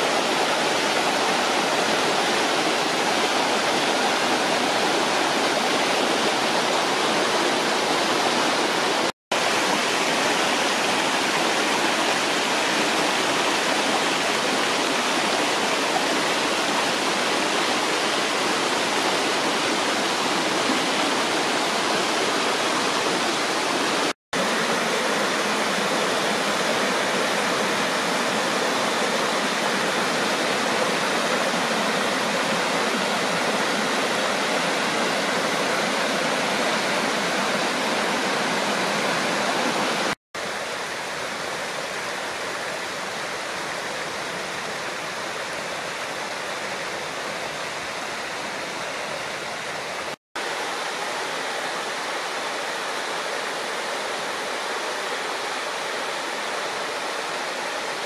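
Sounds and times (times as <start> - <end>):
stream splashing over rocks: 0.0 - 58.0
waterfall rushing: 0.0 - 58.0.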